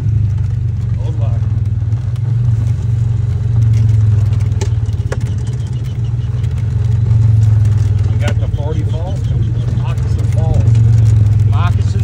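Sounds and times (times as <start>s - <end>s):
atv engine running: 0.0s - 12.0s
rattling and clatter of vehicle: 0.0s - 12.0s.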